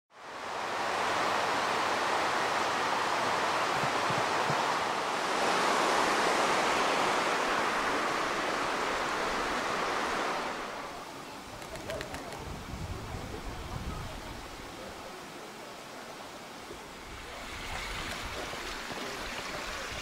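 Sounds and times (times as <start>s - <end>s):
river rushing over stones: 0.2s - 11.6s, 12.5s - 20.0s.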